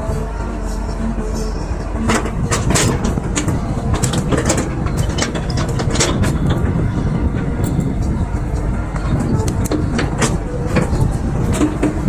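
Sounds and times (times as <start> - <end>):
excavator engine running: 0.0 - 12.0
metallic clanks and rattles: 0.8 - 12.0.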